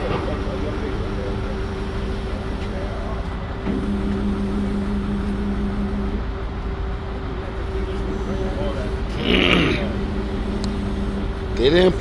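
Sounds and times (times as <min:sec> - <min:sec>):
lower drone: 0:00.0 - 0:12.0
vehicle engine running: 0:00.0 - 0:12.0.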